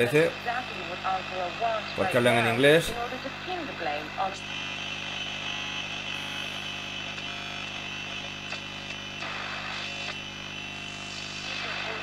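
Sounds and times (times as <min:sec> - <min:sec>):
radio crackles: 0:00.0 - 0:12.0
radio static and hiss: 0:00.0 - 0:12.0
steady low hum: 0:00.0 - 0:12.0.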